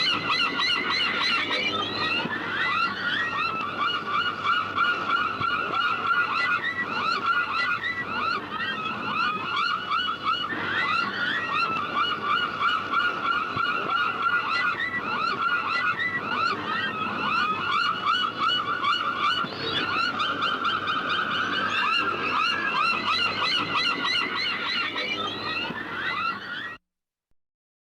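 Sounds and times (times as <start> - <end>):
seagulls calling: 0.0 - 26.8.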